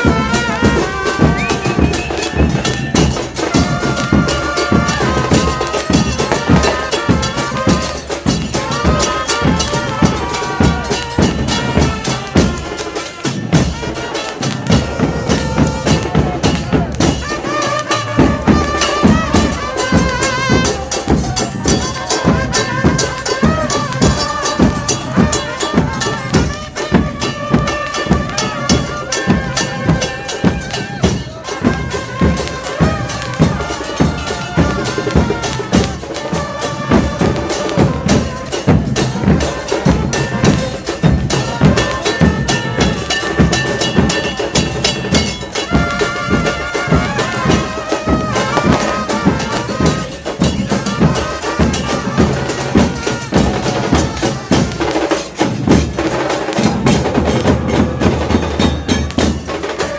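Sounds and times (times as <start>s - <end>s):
crowd singing a chant: 0.0s - 59.9s
pounding drum beats: 0.0s - 59.9s.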